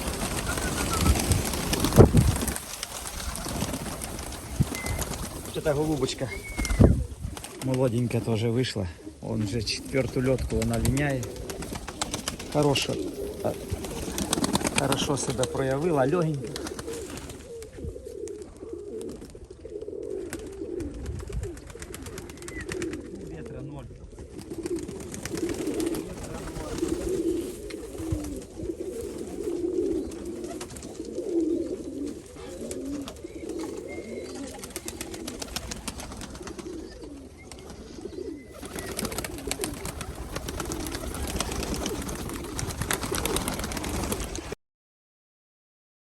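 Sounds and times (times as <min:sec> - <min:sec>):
pigeons cooing: 0:00.0 - 0:44.5.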